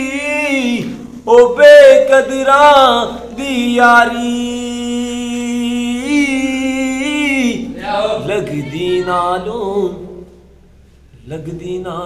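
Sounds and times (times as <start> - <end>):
man singing unaccompanied: 0.0 - 10.4, 11.2 - 12.0.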